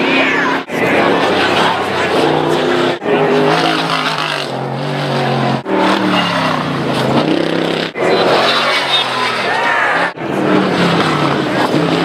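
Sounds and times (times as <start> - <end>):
truck engines revving hard: 0.0 - 12.0.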